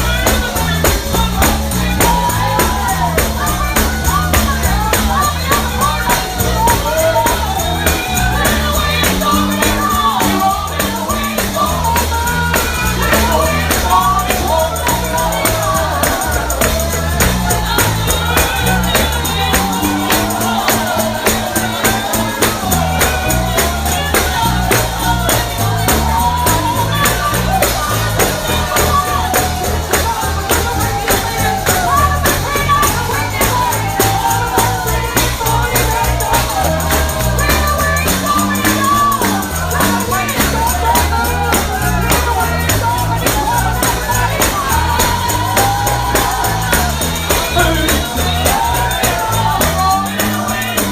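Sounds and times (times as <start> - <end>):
bass line: 0.0 - 50.9
people singing: 0.0 - 50.9
tambourine beat: 0.0 - 50.9.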